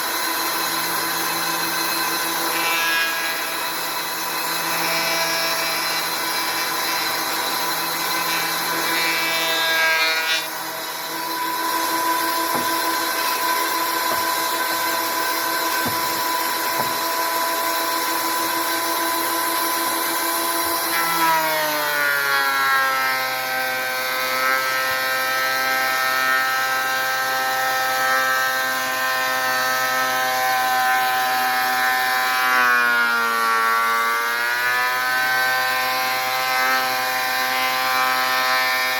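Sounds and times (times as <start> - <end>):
thickness planer motor whine: 0.0 - 38.9.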